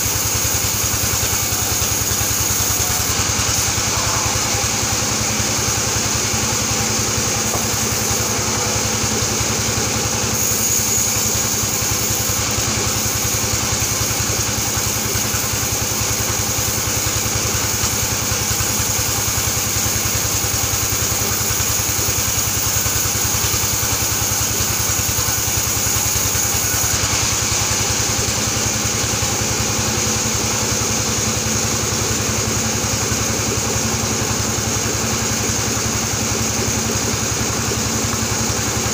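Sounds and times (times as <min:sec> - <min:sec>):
band sawmill drone and whine: 0:00.0 - 0:38.9.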